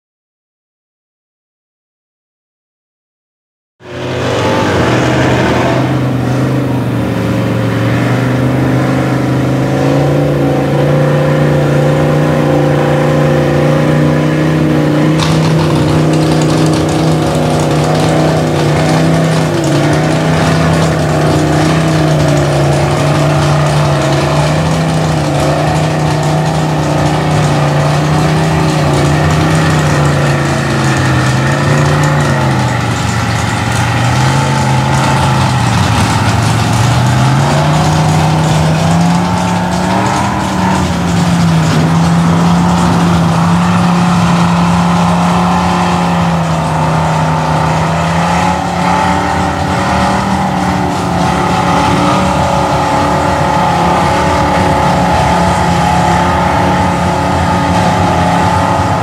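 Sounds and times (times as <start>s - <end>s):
truck engine idling: 3.8s - 59.0s.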